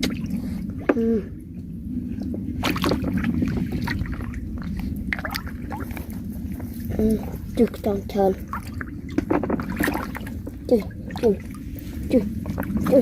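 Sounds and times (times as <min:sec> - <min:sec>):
low rumble: 0:00.0 - 0:13.0
splashing in shallow water: 0:02.6 - 0:13.0.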